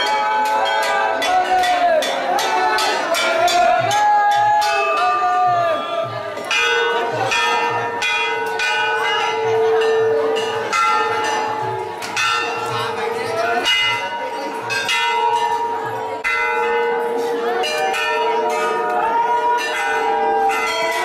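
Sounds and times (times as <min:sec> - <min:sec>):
brass bells clanging: 0:00.0 - 0:21.0.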